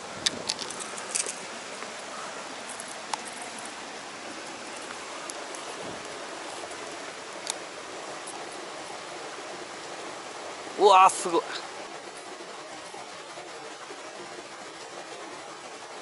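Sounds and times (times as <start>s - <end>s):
rain falling on water: 0.0s - 16.0s.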